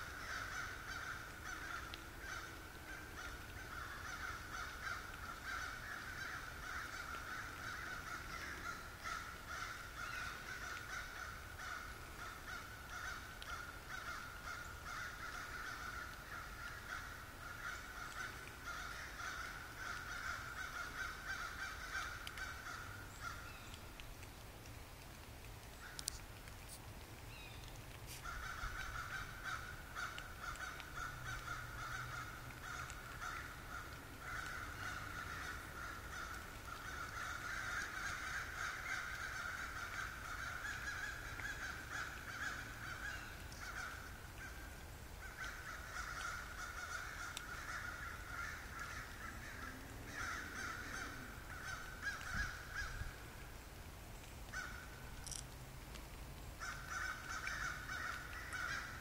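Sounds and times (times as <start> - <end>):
crows cawing: 0.0 - 23.8, 28.1 - 53.5, 54.5 - 55.4, 56.6 - 59.0.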